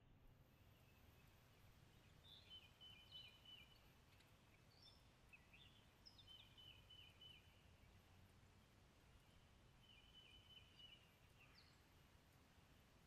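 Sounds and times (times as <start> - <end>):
songbird singing faintly: 0.0 - 13.0.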